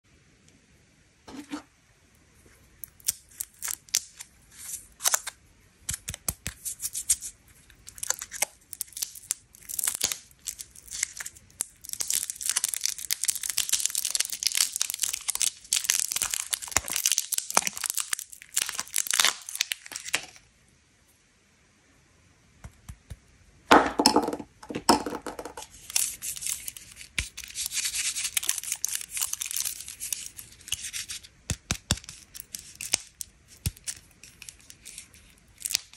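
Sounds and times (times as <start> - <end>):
plastic candy wrapper crinkling: 2.8 - 20.4, 24.1 - 35.9.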